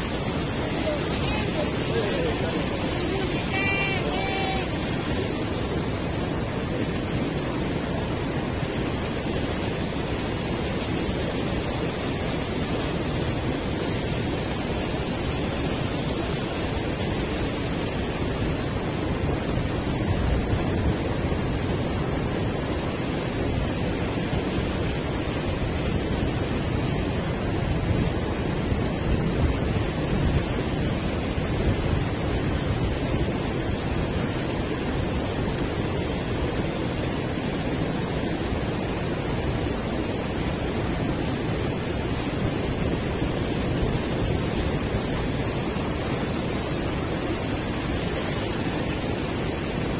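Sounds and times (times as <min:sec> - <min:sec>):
river water pouring over weir: 0:00.0 - 0:49.9.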